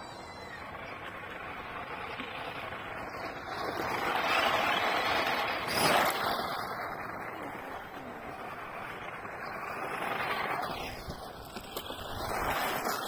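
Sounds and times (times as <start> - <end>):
toy car sliding on gravel: 0.0 - 13.0.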